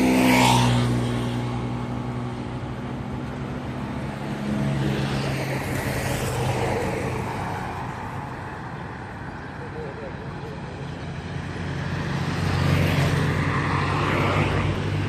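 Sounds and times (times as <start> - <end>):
passing traffic: 0.0 - 15.0
vehicle engine humming: 0.0 - 15.0.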